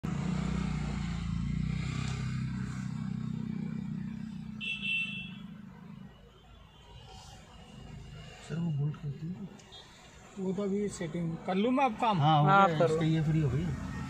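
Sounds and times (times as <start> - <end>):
vehicle engine rumble: 0.0 - 11.4.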